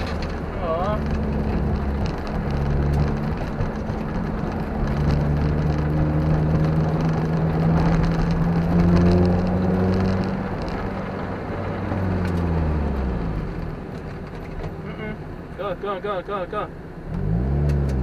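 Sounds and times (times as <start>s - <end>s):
car engine running under load: 0.0s - 18.0s
road and wind noise: 0.0s - 18.0s.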